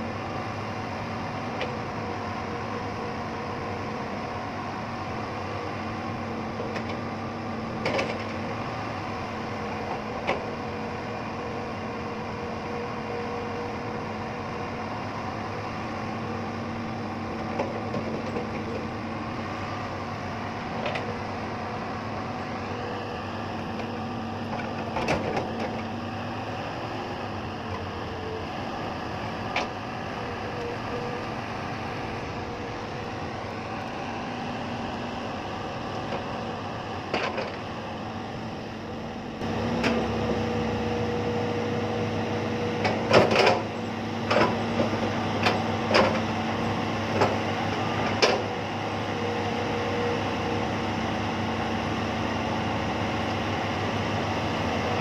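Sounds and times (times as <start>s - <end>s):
excavator diesel engine running: 0.0s - 55.0s
high mechanical whine: 0.0s - 55.0s.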